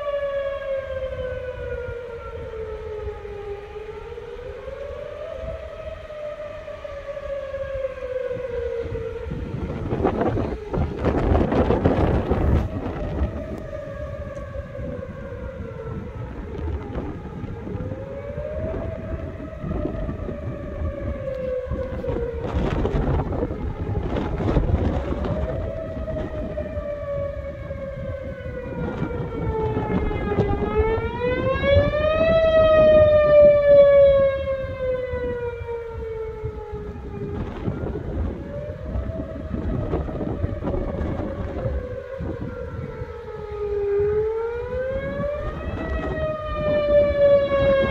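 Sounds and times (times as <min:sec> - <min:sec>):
warning siren wailing: 0:00.0 - 0:47.9
wind buffeting microphone: 0:00.0 - 0:47.9.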